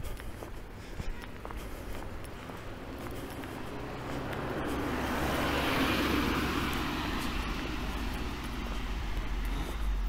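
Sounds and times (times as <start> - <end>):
car passing by: 1.6 - 10.0.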